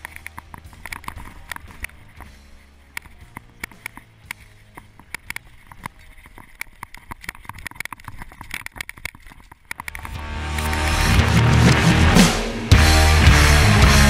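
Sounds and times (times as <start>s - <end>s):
mountain bike rattling: 0.0s - 11.5s.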